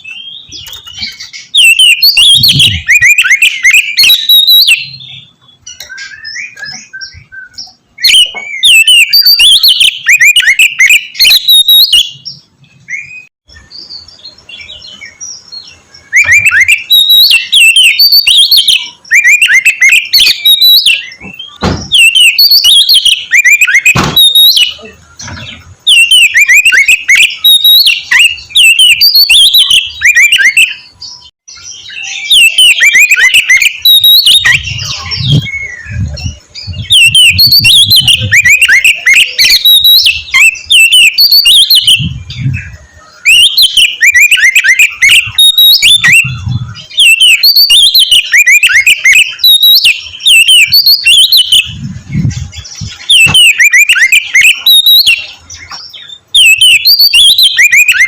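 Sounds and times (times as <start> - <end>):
bird singing loudly: 0.0 - 58.0.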